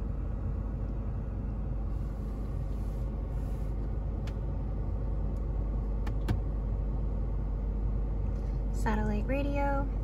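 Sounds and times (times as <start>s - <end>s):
car cabin engine rumble: 0.0s - 10.0s.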